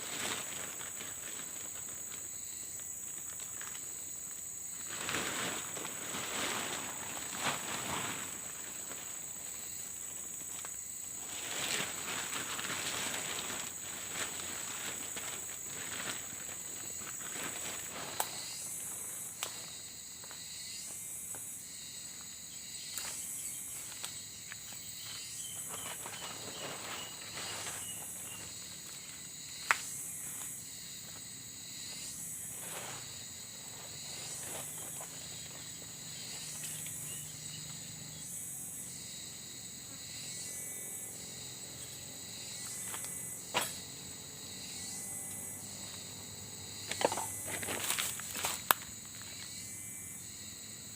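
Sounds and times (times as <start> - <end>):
camping gear rustling: 0.0 - 49.8
insects buzzing: 0.0 - 50.9
pulsing insect chirp: 0.0 - 50.9.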